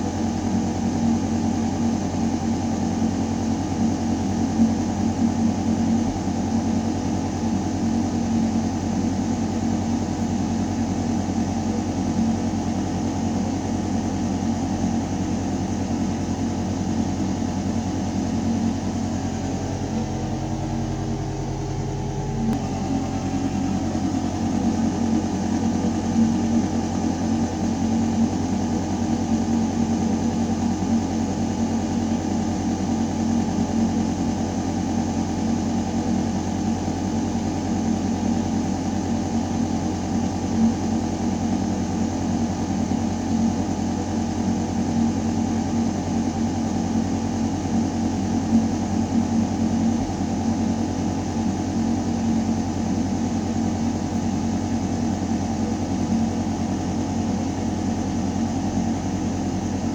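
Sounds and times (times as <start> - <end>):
ventilation system humming: 0.0 - 59.9.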